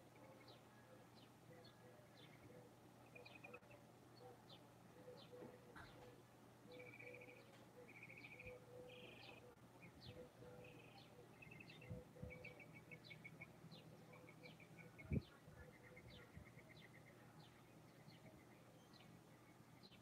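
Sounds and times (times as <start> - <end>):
birds chirping and trilling: 0.0 - 20.0
low steady hum: 0.0 - 20.0.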